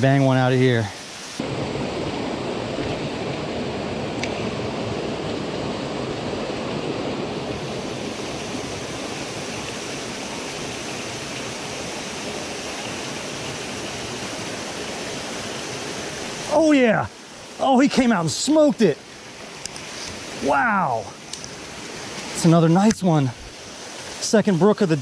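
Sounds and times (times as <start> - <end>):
waterfall rushing: 0.1 - 25.0.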